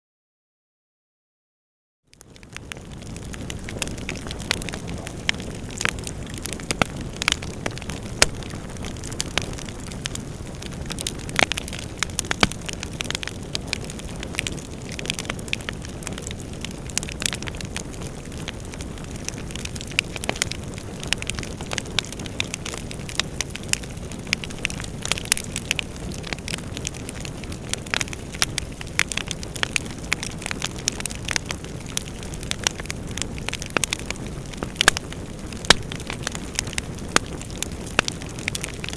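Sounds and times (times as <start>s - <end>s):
fire crackling and popping: 2.1s - 38.9s
fire rushing: 2.2s - 38.9s.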